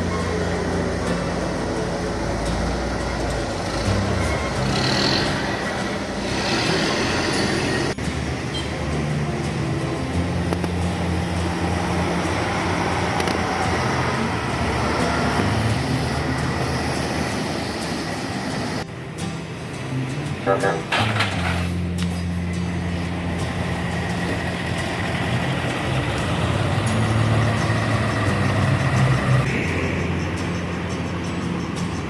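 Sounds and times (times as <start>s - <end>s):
bus engines droning: 0.0s - 32.0s
traffic noise: 0.0s - 32.0s.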